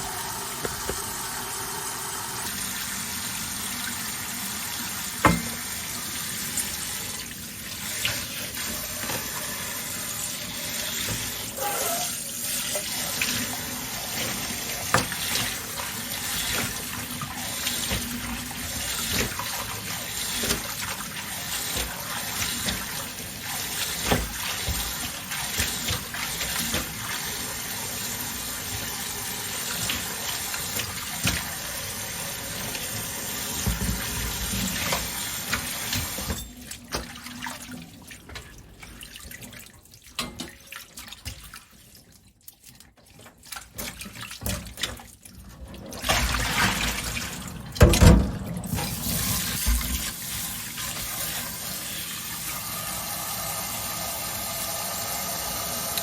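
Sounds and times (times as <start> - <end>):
tap water running into sink: 0.0 - 41.7, 43.0 - 56.0.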